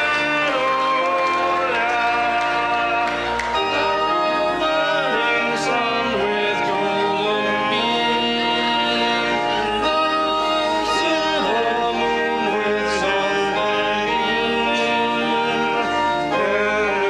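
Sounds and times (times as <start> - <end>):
instrumental accompaniment: 0.0 - 17.0
men singing a hymn: 0.0 - 17.0.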